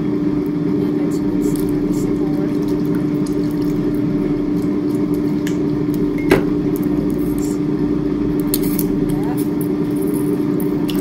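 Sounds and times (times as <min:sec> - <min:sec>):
air fryer fan hum: 0:00.0 - 0:11.0.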